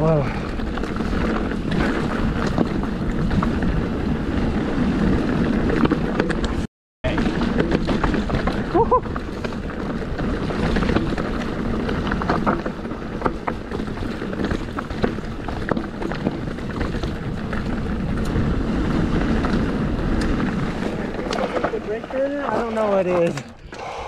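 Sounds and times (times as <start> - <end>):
tyres crunching over gravel: 0.0 - 23.5
bike clicks and knocks: 0.4 - 23.9.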